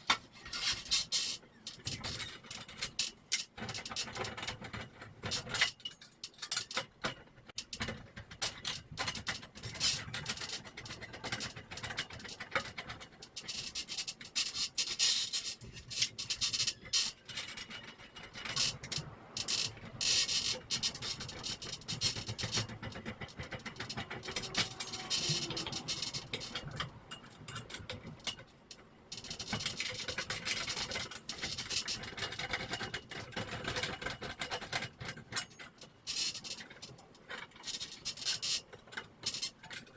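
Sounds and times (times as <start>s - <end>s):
rubbing and scratching: 0.0s - 39.9s.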